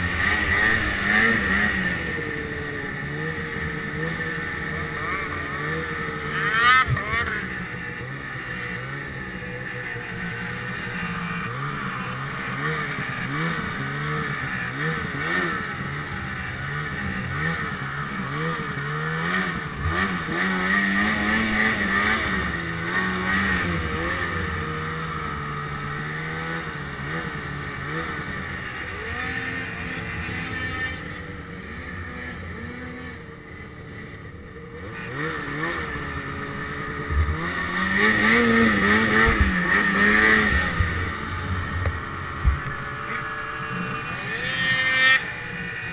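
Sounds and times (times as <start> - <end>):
snowmobile engine revving: 0.0 - 45.9.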